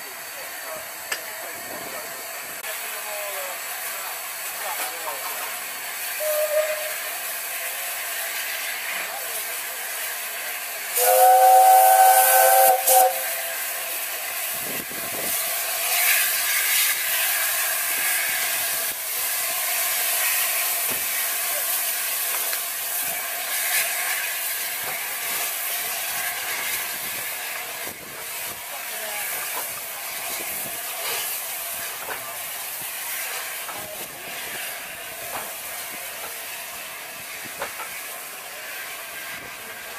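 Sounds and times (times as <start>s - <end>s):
steam locomotive hissing: 0.0s - 39.9s.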